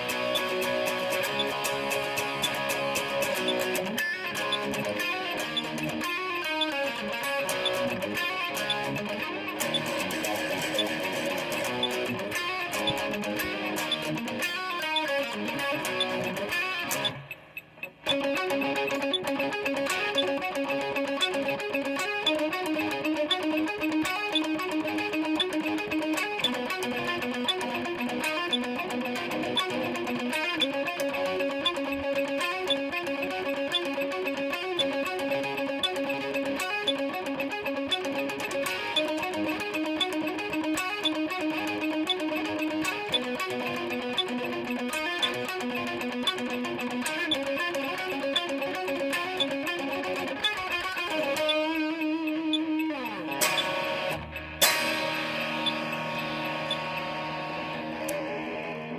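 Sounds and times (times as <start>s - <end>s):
electric guitar notes: 0.0s - 58.9s.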